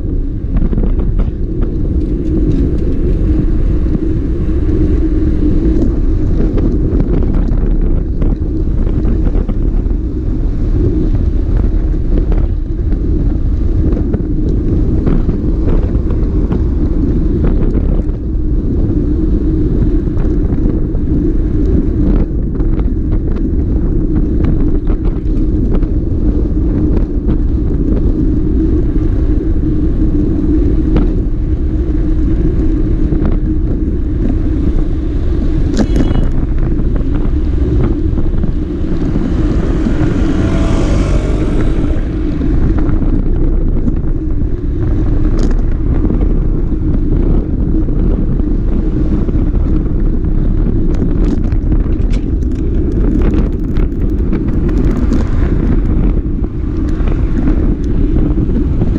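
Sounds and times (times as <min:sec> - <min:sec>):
motorcycle cruising: 0:00.0 - 0:58.9
wind buffeting microphone: 0:00.0 - 0:58.9.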